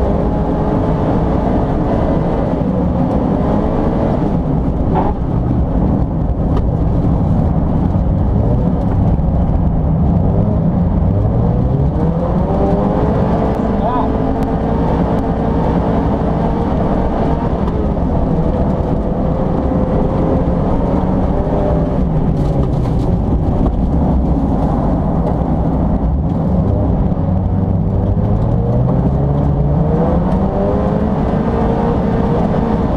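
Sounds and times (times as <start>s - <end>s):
race car engine revving: 0.0s - 32.9s.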